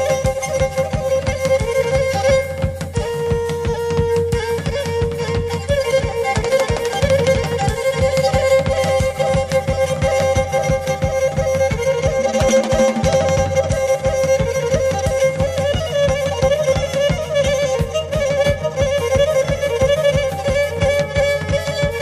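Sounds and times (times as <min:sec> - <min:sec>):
bowed lyra melody: 0:00.0 - 0:22.0
steady drum beat: 0:00.0 - 0:22.0.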